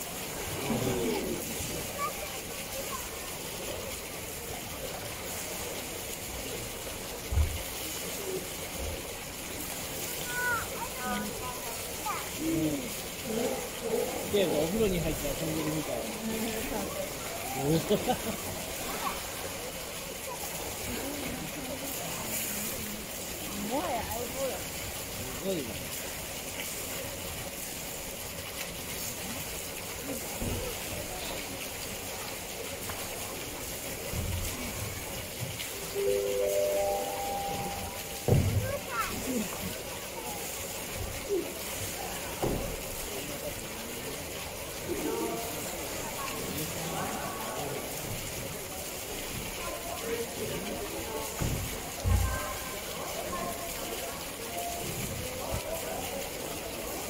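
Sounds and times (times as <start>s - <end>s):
faint voices: 0.0s - 57.0s
water running and sloshing: 0.0s - 57.0s.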